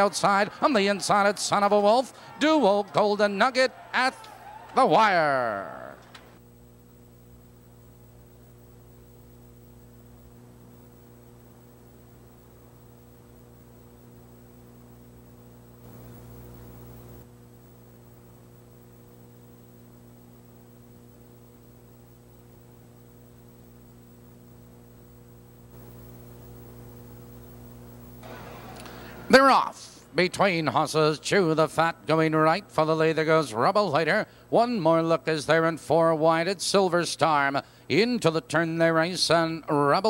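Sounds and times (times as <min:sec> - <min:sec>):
electrical mains hum: 0:00.0 - 0:40.0
faint tape hiss: 0:00.0 - 0:40.0.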